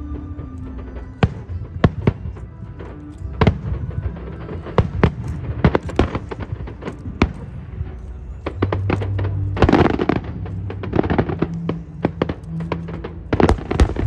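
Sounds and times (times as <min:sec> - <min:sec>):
low rumble: 0:00.0 - 0:14.0
fireworks bangs: 0:00.3 - 0:14.0.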